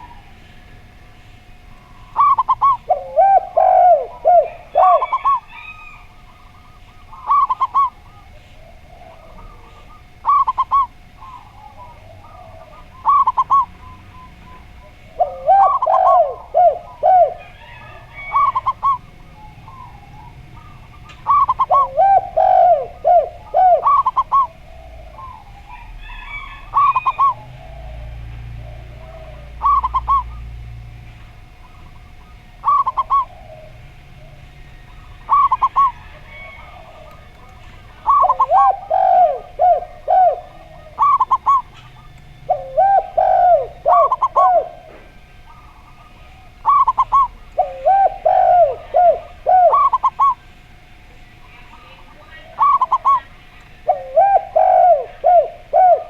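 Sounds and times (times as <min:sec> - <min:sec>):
doves cooing: 0:00.0 - 0:56.0
small birds chirping: 0:00.0 - 0:56.0.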